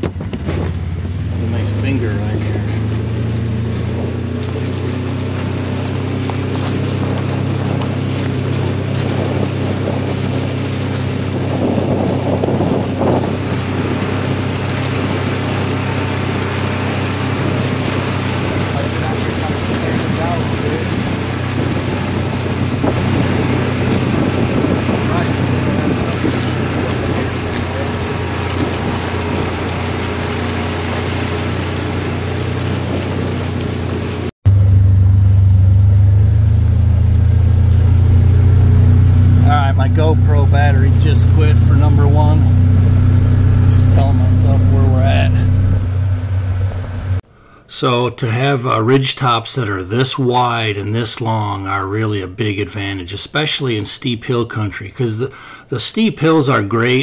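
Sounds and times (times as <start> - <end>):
vehicle engine droning: 0.0 - 47.3
vehicle rattling: 0.0 - 47.3.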